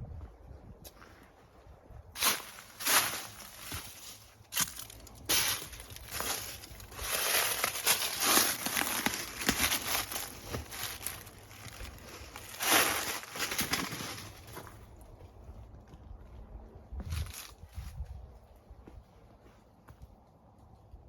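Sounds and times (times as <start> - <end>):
footsteps on rocky trail: 2.2 - 21.0.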